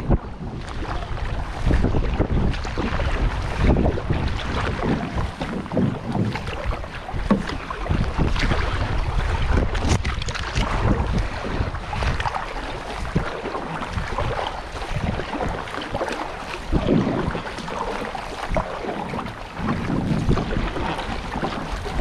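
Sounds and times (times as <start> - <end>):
water splashing: 0.0 - 22.0
wind buffeting microphone: 0.0 - 22.0.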